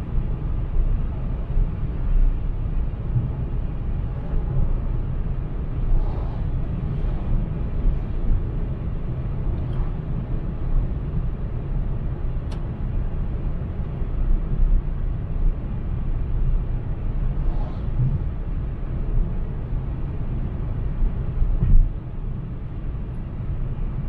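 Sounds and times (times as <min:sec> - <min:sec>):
in-cabin road and engine rumble: 0:00.0 - 0:24.0.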